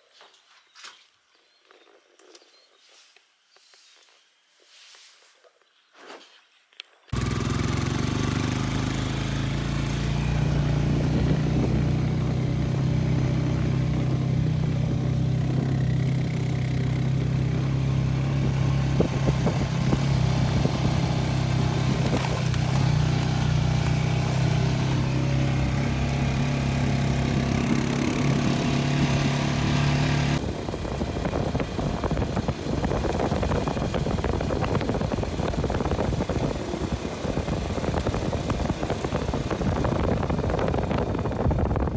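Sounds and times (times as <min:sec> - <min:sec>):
engine running: 0:07.2 - 0:41.9
rough rattling engine: 0:07.2 - 0:41.9.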